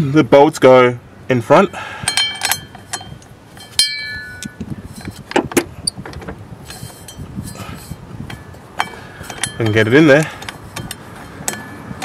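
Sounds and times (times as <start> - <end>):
steel bolts clinking and knocking: 2.0 - 12.0.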